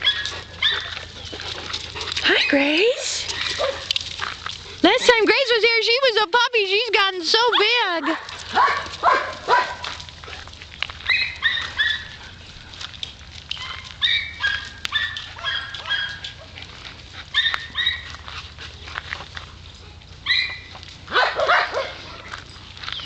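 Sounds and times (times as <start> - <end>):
dogs yipping: 0.0 - 4.8, 7.4 - 12.6, 13.4 - 19.0, 19.8 - 23.0.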